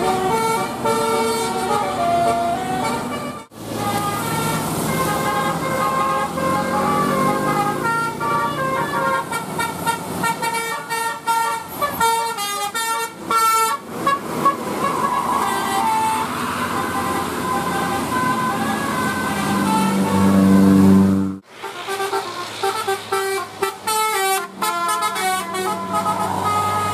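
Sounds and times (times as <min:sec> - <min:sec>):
bus musical air horn: 0:00.0 - 0:26.9.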